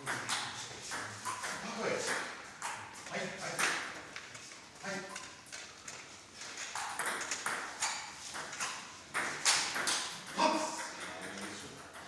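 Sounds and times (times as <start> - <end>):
table tennis balls clicking: 0.0 - 4.6, 5.2 - 12.0.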